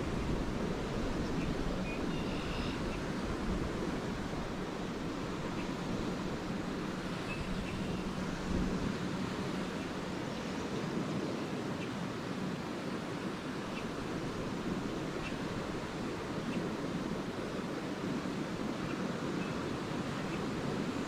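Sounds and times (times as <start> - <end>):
lake waves washing onto shore: 0.0 - 21.0.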